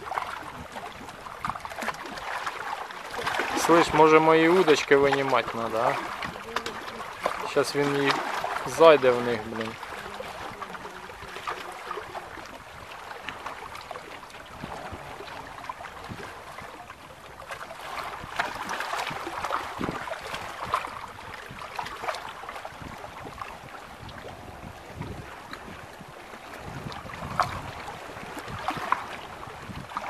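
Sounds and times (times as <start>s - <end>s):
waves lapping against hull: 0.0s - 30.0s
wind buffeting microphone: 0.0s - 30.0s.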